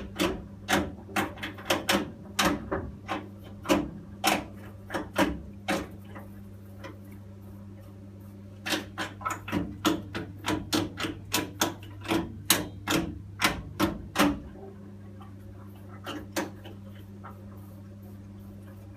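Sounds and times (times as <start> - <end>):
boiler humming: 0.0 - 18.9.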